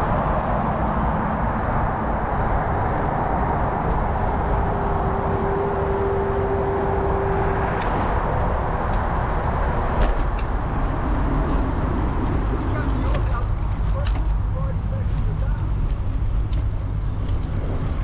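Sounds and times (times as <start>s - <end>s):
bicycle tyres rolling: 0.0s - 18.0s
wind noise: 0.0s - 18.0s.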